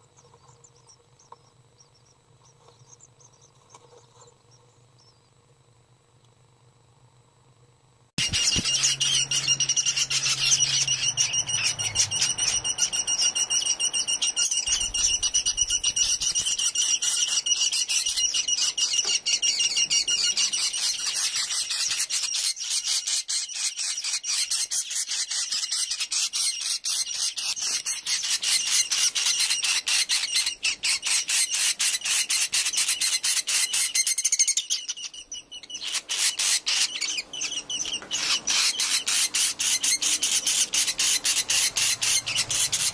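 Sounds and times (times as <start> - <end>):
swiftlet chicks clicking calls: 8.2 - 42.9.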